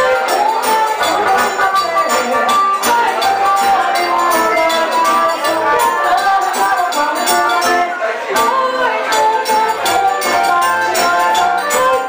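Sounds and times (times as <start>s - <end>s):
accordion melody: 0.0s - 12.0s
guitar: 0.0s - 12.0s
jingling hand percussion: 0.0s - 12.0s.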